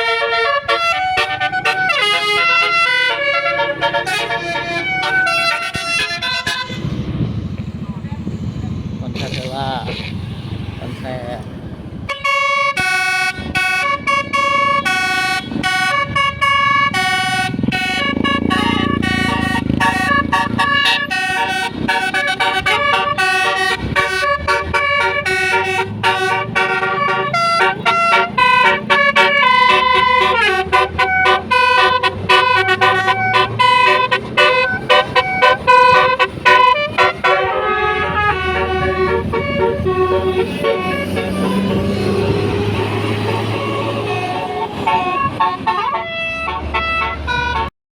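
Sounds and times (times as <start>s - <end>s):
electric trumpet horns playing melody: 0.0s - 7.0s, 12.1s - 47.7s
bus engine running: 0.0s - 47.7s.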